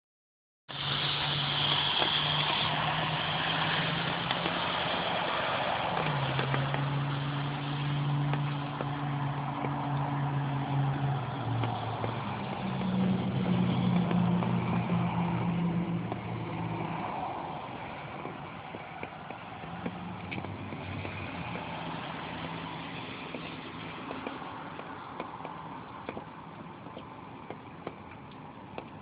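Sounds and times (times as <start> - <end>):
rain falling: 0.7 - 27.1
vehicle engine humming: 0.7 - 29.0.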